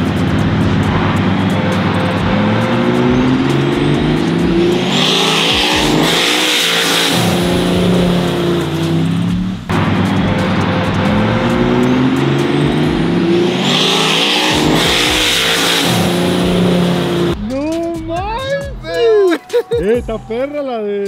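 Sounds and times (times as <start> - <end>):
vehicle engines revving: 0.0 - 18.9.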